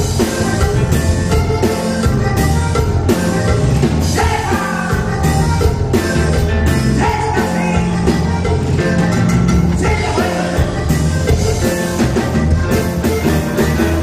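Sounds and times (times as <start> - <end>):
button accordion: 0.0 - 14.0
electric bass: 0.0 - 14.0
guitar: 0.0 - 14.0
steady drum-kit beat: 0.0 - 14.0.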